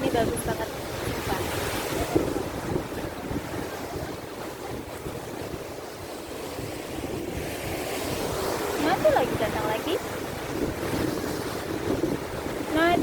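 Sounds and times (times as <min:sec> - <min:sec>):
waves breaking on rocks: 0:00.0 - 0:13.0
wind buffeting microphone: 0:00.0 - 0:13.0.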